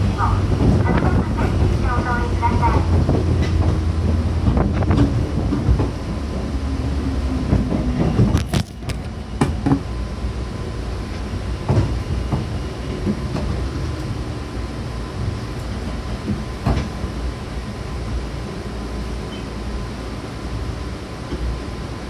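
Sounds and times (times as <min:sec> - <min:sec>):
train interior rumble: 0:00.0 - 0:22.0.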